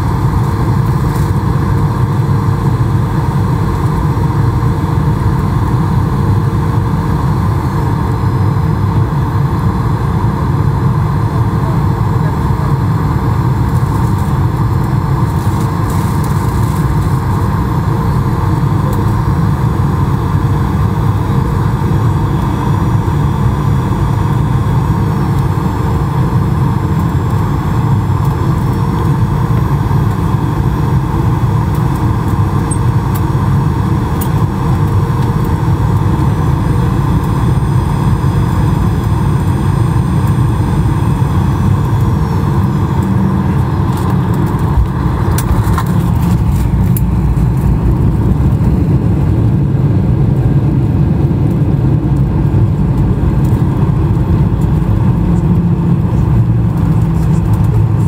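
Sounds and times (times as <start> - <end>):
high engine whine: 0.0 - 58.0
jet engine roar and rumble: 0.0 - 58.0.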